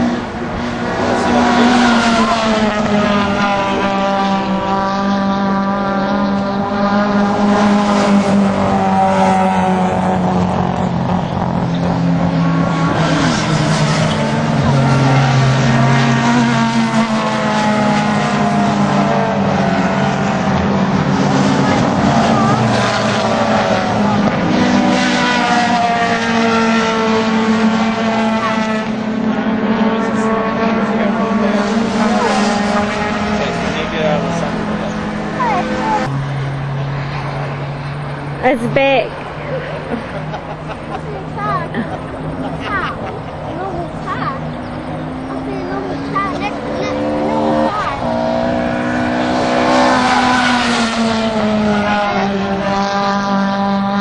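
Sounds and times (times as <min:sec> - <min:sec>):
race car engines accelerating: 0:00.0 - 0:54.0.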